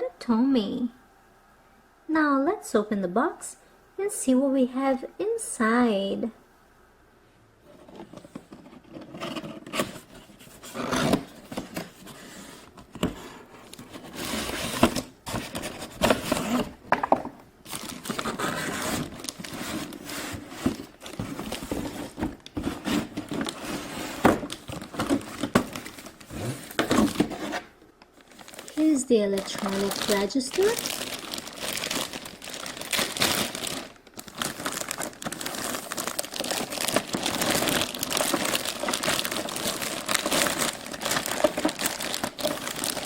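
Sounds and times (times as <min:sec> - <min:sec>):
cardboard and plastic tearing: 0:07.8 - 0:43.0.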